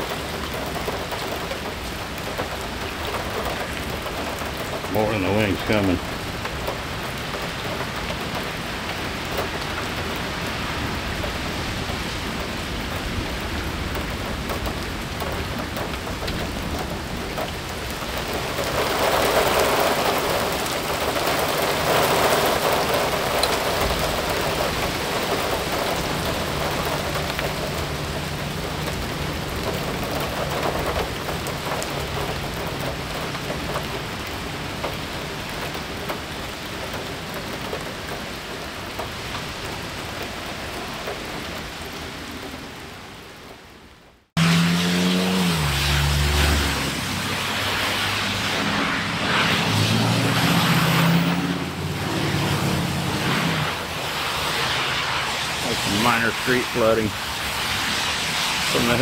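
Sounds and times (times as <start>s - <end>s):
heavy rain splashing into water: 0.0s - 59.0s.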